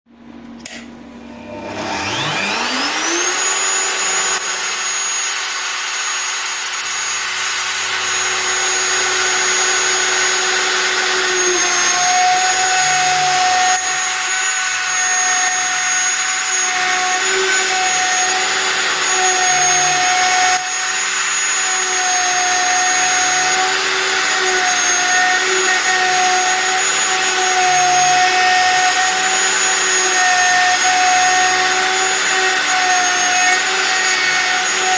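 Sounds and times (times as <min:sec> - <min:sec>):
cnc router spindle whining: 0:01.4 - 0:34.9.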